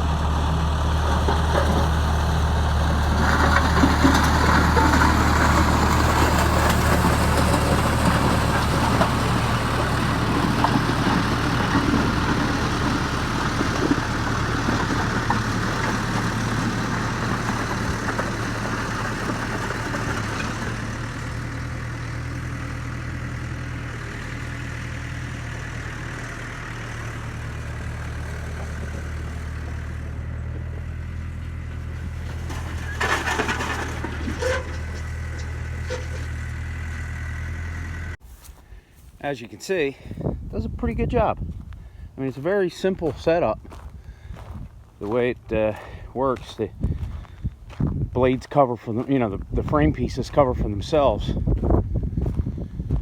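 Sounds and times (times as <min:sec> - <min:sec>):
skid steer engine running: 0:00.0 - 0:39.2, 0:40.0 - 0:53.0.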